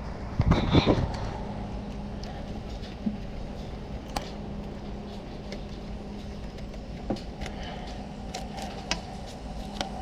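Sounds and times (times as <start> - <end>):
faint hum: 0.0 - 10.0
camera handling rumble: 1.9 - 10.0.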